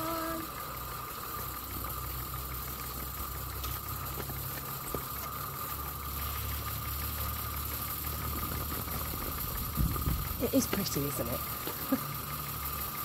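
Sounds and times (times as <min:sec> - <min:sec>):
model steam locomotive humming: 0:00.0 - 0:13.0.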